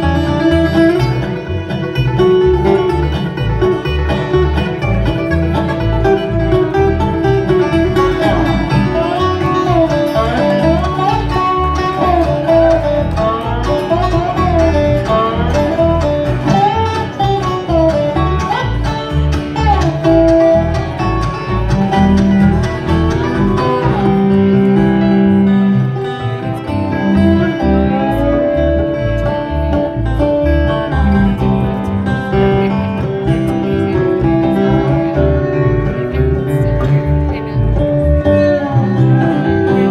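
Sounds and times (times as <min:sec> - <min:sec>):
bluegrass band playing: 0:00.0 - 0:39.9.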